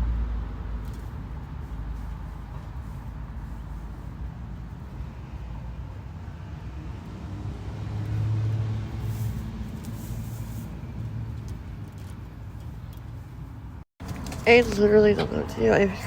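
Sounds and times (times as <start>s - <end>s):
road vehicle passing rumble: 0.0s - 16.0s.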